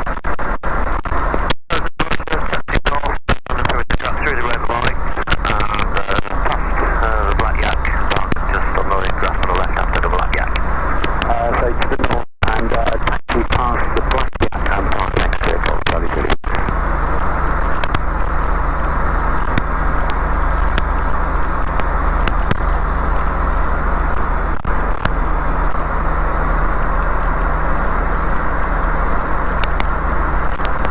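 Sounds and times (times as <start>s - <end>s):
aircraft piston engine droning: 4.1s - 30.9s.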